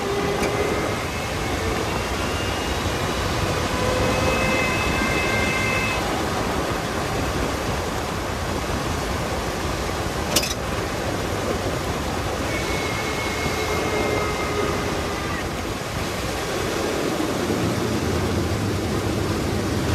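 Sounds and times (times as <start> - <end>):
road and wind noise: 0.0 - 19.9.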